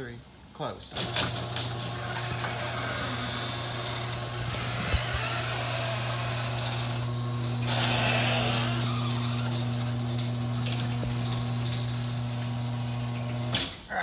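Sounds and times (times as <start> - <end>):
garage door opener motor humming: 0.9 - 13.8
garage door rattling: 0.9 - 13.9.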